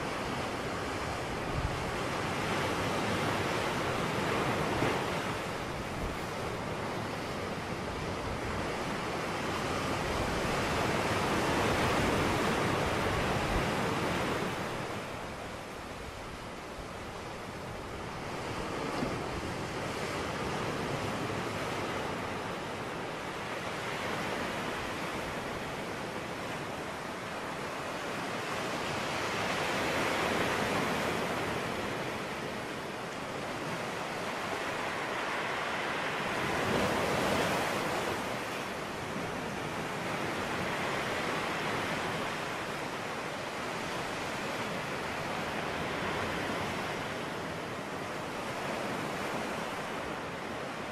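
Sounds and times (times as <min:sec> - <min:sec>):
waves rushing: 0:00.0 - 0:50.9.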